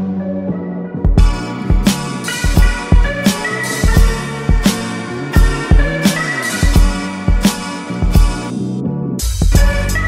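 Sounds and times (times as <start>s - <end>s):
held instrumental notes: 0.5s - 8.6s
drum beat with heavy bass drum: 1.1s - 8.5s, 9.2s - 10.0s.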